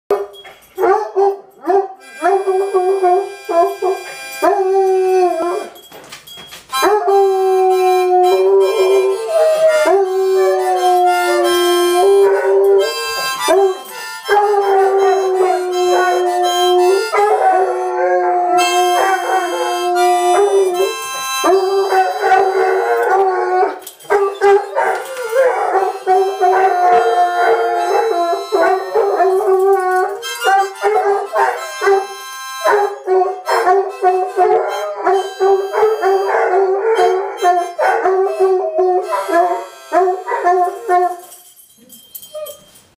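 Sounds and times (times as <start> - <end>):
harmonica: 0.1 - 41.4
dog howling: 4.4 - 5.7, 6.9 - 41.2.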